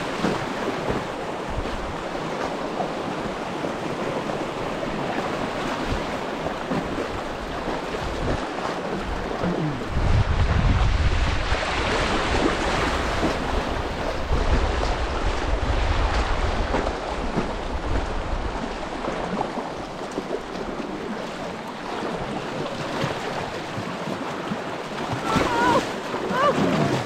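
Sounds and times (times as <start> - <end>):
wind rumbling on microphone: 0.0 - 24.2
water rushing and splashing: 0.0 - 27.0.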